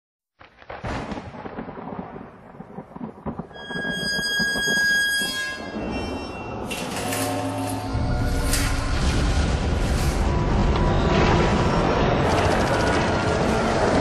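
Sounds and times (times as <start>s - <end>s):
low rumbling crackling noise: 0.4s - 14.0s.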